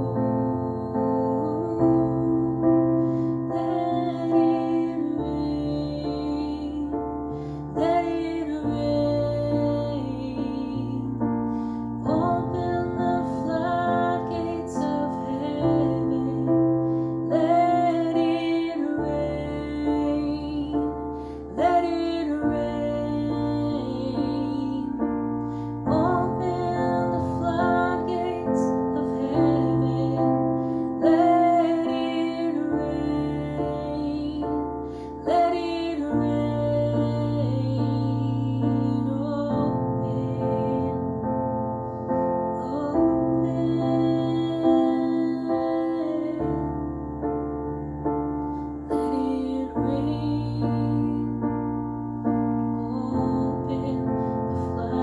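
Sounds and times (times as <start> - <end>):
woman singing with vibrato: 0.0 - 41.2, 42.6 - 46.8, 48.9 - 51.5, 52.7 - 55.0.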